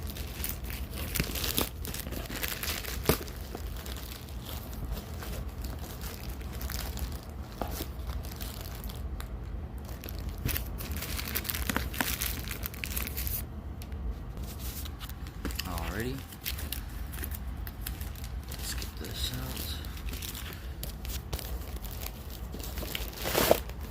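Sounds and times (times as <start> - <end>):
packaging crinkling and tearing: 0.0 - 13.4, 14.5 - 23.9.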